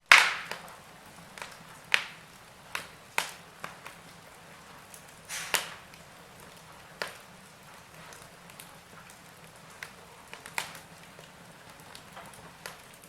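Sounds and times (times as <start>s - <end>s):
faint steady hiss: 0.0s - 13.0s
wood fire crackling: 0.0s - 13.0s.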